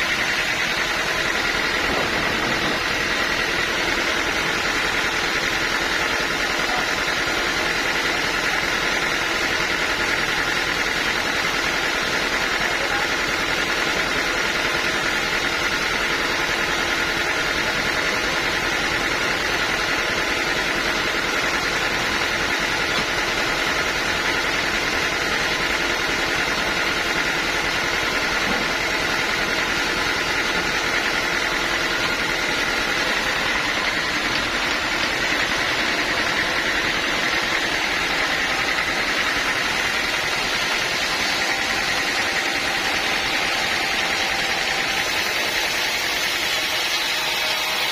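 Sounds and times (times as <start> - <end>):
sawmill machinery drone: 0.0 - 47.9.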